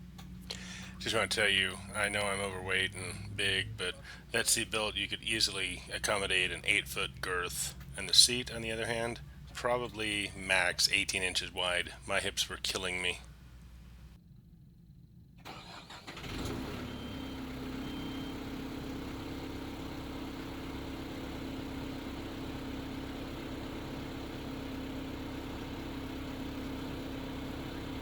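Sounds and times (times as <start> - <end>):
diesel engine starting and idling: 0.1 - 13.2, 15.4 - 28.0.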